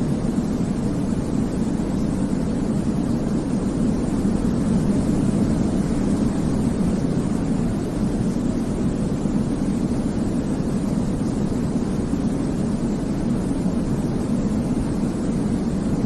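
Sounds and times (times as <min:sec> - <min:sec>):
deep white noise rumble: 0:00.0 - 0:16.0.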